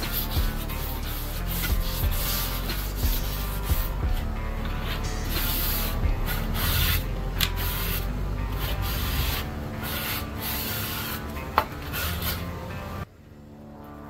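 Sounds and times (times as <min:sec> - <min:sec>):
rag rubbing on wood: 0:00.0 - 0:12.5.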